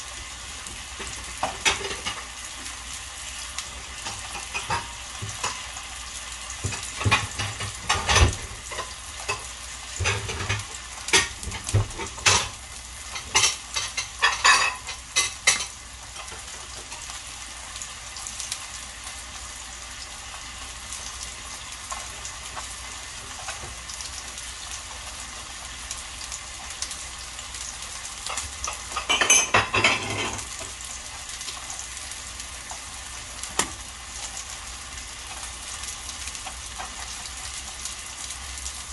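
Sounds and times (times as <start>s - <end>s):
meat sizzling on grill pan: 0.0s - 38.9s.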